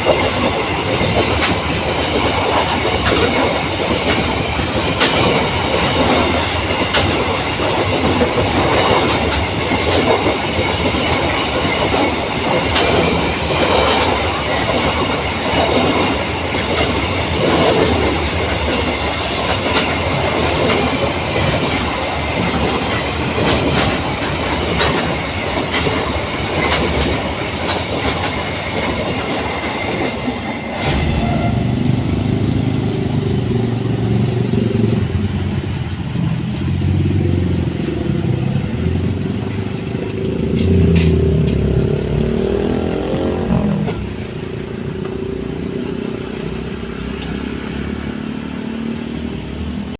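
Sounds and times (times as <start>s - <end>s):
train wheels clattering over rail joints: 0.0s - 32.4s, 37.7s - 45.3s.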